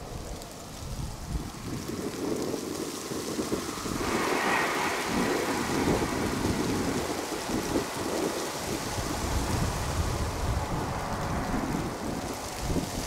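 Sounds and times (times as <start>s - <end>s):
high hiss: 2.2s - 12.8s.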